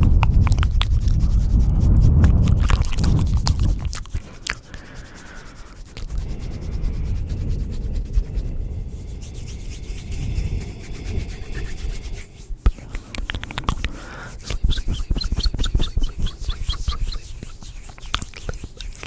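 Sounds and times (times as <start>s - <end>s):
close rubbing and scratching: 0.0s - 19.0s.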